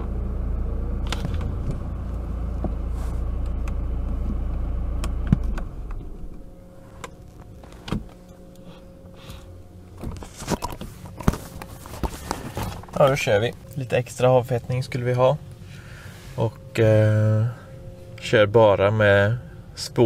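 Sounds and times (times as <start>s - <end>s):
car engine running low speed: 0.0s - 20.0s
quiet hum: 0.0s - 20.0s.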